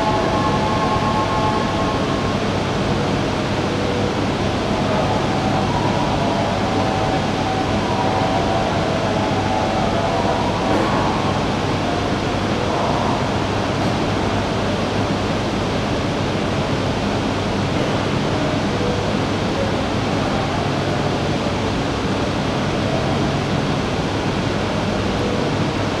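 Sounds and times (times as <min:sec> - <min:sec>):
railway platform rushing hum: 0:00.0 - 0:26.0.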